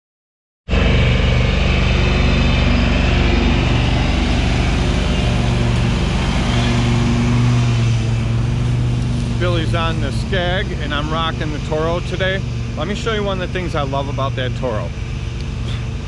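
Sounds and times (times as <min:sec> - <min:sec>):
riding lawn mower engine: 0:00.7 - 0:16.0.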